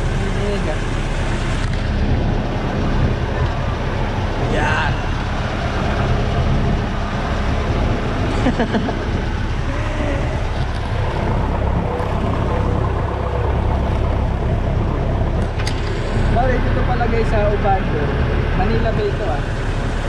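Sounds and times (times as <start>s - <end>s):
boat engine running: 0.0s - 20.0s
water rushing: 0.0s - 20.0s
wind rushing: 0.0s - 20.0s.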